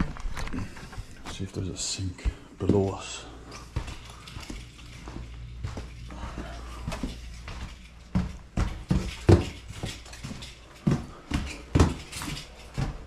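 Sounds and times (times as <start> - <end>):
heavy footsteps down stairs: 0.0 - 13.0.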